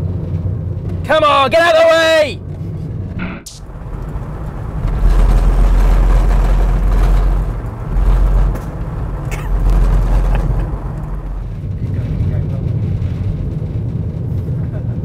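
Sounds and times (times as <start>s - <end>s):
vans passing on road: 0.0s - 15.0s.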